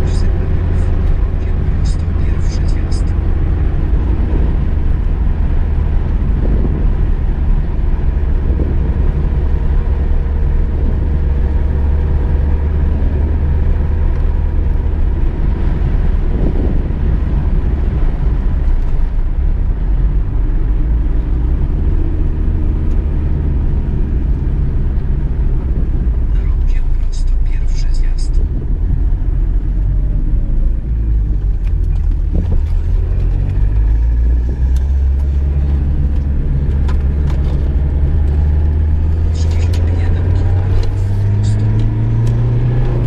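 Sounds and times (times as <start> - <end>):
car engine and road rumble: 0.0 - 43.0.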